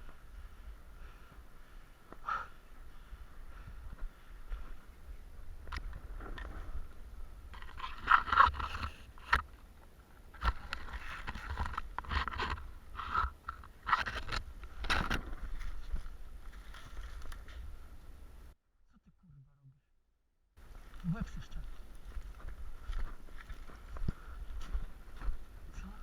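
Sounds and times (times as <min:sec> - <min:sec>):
rustling through undergrowth: 0:00.0 - 0:18.5, 0:20.6 - 0:26.0.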